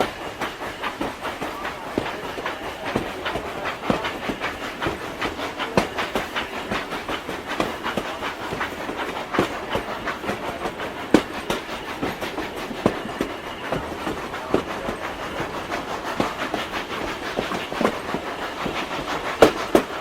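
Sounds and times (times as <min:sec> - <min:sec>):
train wheels clacking on rails: 0:00.0 - 0:20.0.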